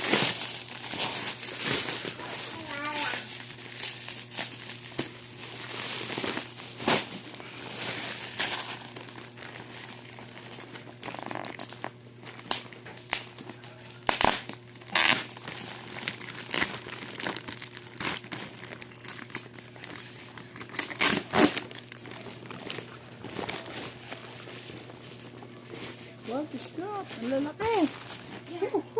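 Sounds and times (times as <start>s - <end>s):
packaging crinkling and tearing: 0.0s - 28.9s.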